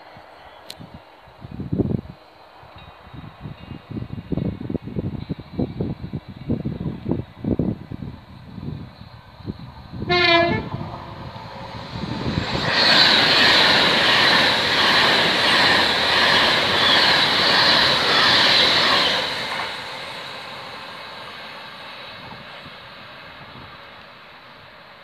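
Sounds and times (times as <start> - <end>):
electric train passing at speed: 0.0 - 25.0
high-pitched train whine: 0.0 - 25.0.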